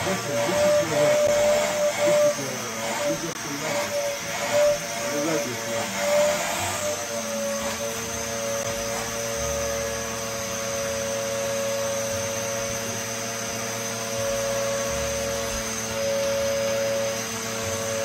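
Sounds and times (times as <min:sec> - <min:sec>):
vacuum cleaner motor whine: 0:00.0 - 0:18.0.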